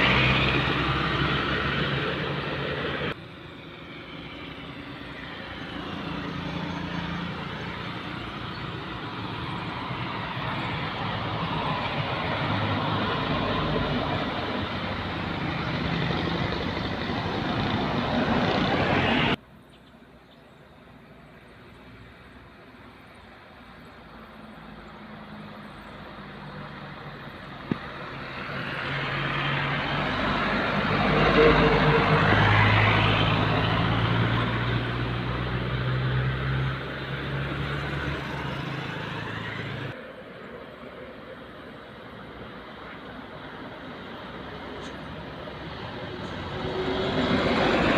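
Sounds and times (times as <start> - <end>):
truck engine passing: 0.0 - 19.4, 24.0 - 47.9.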